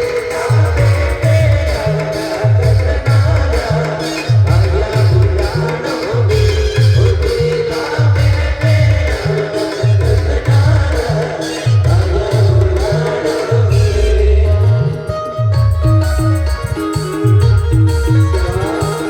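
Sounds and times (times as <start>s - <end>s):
band melody: 0.0s - 19.0s.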